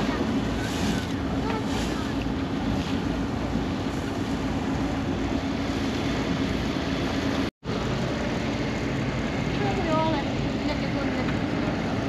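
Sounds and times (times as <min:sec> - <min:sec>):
ship engine drone: 0:00.0 - 0:12.0
wind rumble: 0:00.0 - 0:12.0.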